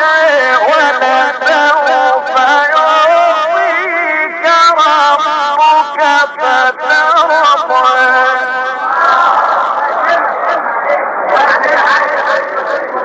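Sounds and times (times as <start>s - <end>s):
man chanting with echo: 0.0s - 13.0s.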